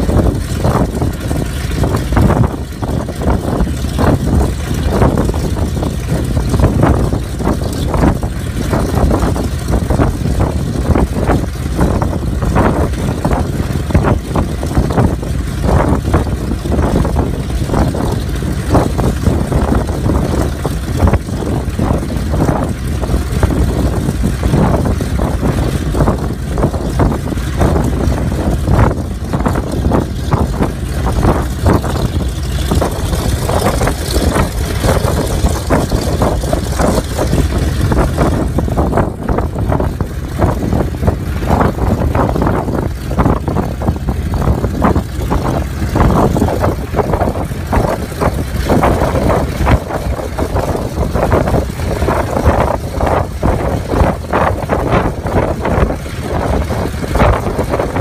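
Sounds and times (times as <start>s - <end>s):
radial engine idling: 0.0s - 58.0s.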